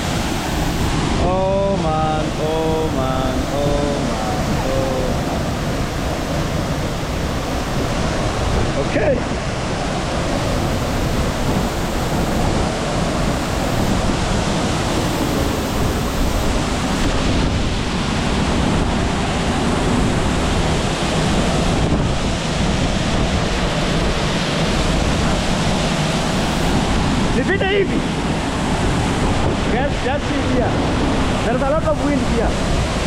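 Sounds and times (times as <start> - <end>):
waterfall roaring: 0.0 - 33.0
wind buffeting microphone: 0.0 - 33.0.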